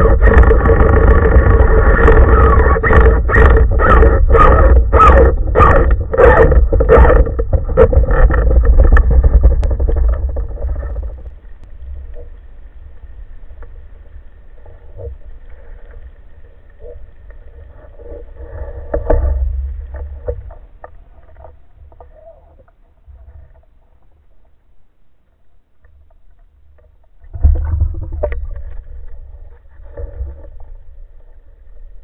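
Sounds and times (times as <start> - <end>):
underwater rumble and sloshing: 0.0 - 32.0.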